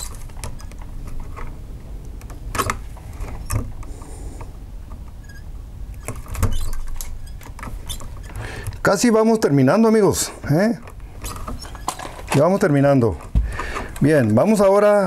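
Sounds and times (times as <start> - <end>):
wire stripper clicking and scraping: 0.0 - 8.8, 10.4 - 14.8.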